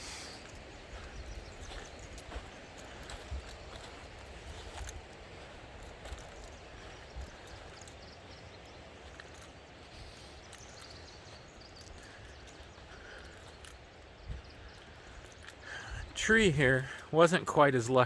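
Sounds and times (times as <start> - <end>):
outdoor background noise: 0.0 - 18.0
faint clicks: 0.2 - 15.8.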